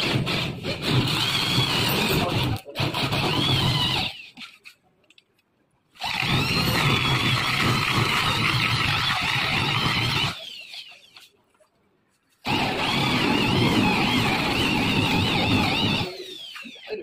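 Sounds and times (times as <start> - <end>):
electric drill cutting wood: 0.0 - 4.4, 6.0 - 11.3, 12.4 - 17.0.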